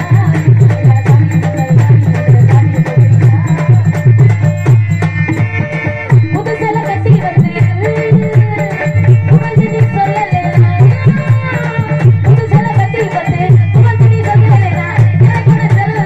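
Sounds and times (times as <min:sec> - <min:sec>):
fast hand-drum rhythm: 0:00.0 - 0:16.0.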